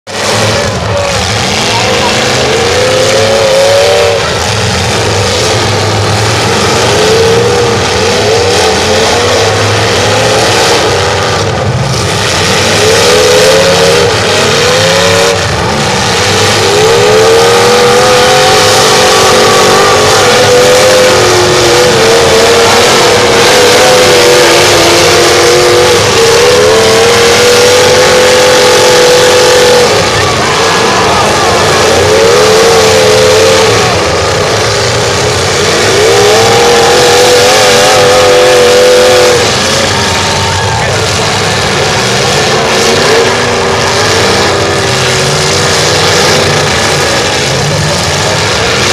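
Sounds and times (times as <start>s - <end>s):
car engines revving hard: 0.0s - 48.9s.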